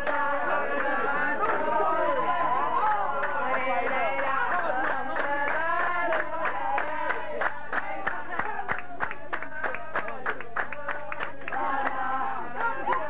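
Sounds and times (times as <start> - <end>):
rhythmic hand clapping: 0.0 - 13.0
voices singing: 0.0 - 13.0.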